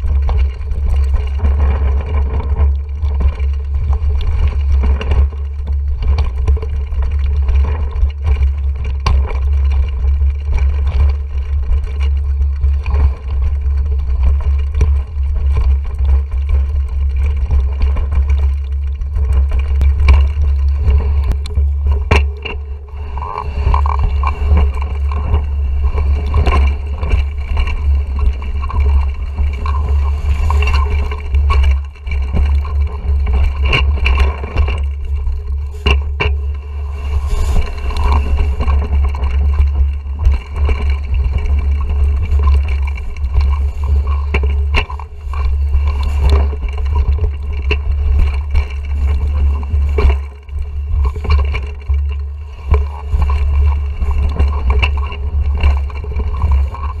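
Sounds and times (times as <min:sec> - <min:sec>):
low rumble of bike vibration: 0:00.0 - 0:57.0.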